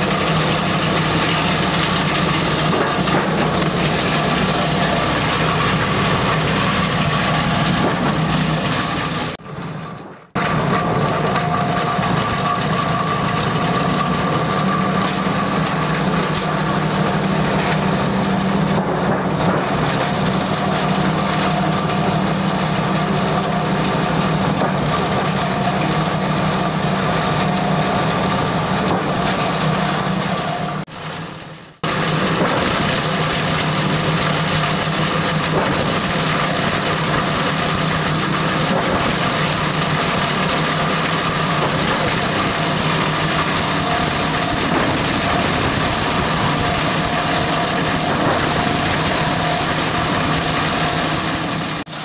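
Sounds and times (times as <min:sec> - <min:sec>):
shredder engine hum: 0:00.0 - 0:52.0.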